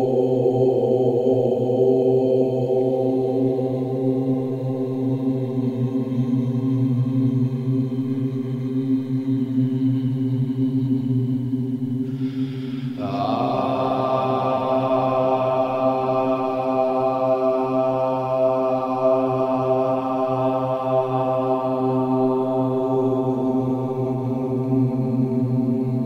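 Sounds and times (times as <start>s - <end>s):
chanted drone: 0.0s - 26.0s.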